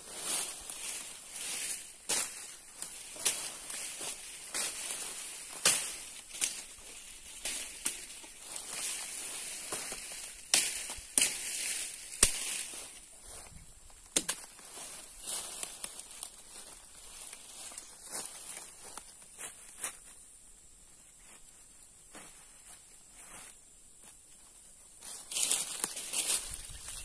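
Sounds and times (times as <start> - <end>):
dry vegetation crackling: 0.0 - 20.0, 25.0 - 27.0
high-pitched hiss: 0.0 - 27.0.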